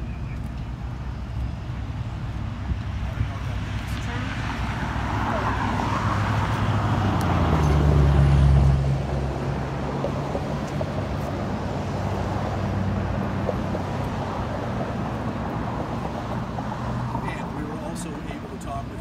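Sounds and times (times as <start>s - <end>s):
background traffic: 0.0s - 19.0s.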